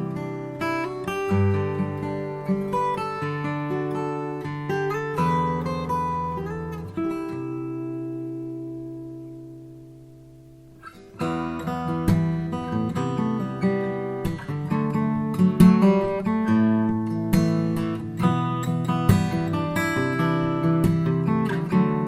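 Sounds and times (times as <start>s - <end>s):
fingerstyle acoustic guitar: 0.0s - 22.0s.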